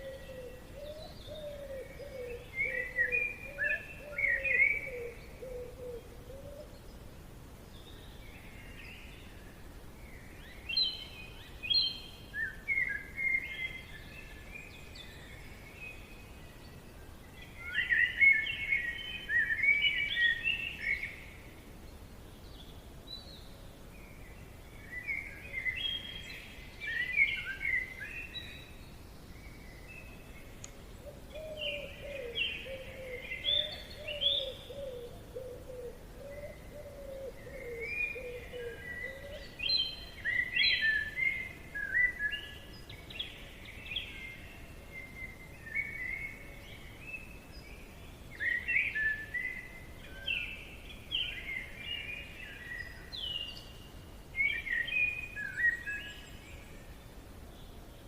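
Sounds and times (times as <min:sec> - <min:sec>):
forest ambience hiss: 0:00.0 - 0:58.0
songbirds chirping: 0:00.0 - 0:58.0.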